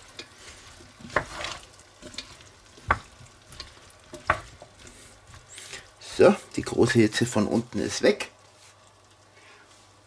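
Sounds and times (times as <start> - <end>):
wooden spoon stirring and scraping: 0.0 - 9.0.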